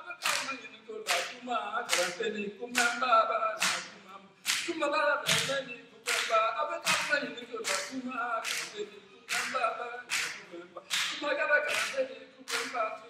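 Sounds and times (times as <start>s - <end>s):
man singing unaccompanied: 0.0s - 13.0s
hand clapping: 0.2s - 12.9s.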